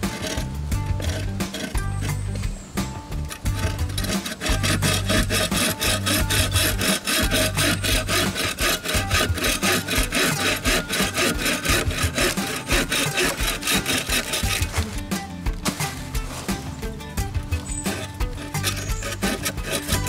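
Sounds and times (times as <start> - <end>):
bow saw cutting wood: 0.0 - 20.0.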